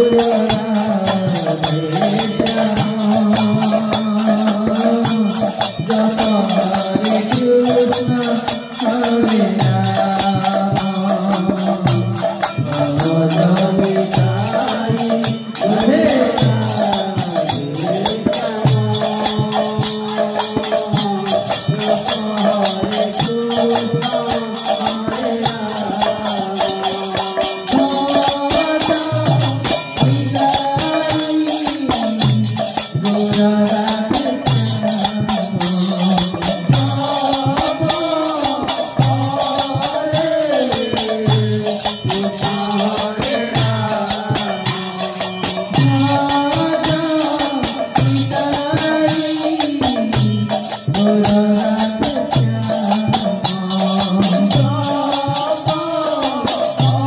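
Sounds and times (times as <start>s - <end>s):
barrel drum beat: 0.0s - 57.0s
man singing into a microphone: 0.0s - 57.0s.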